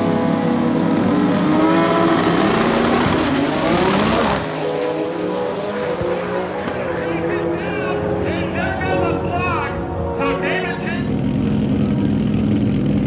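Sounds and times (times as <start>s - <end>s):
drag racing cars accelerating: 0.0s - 13.0s.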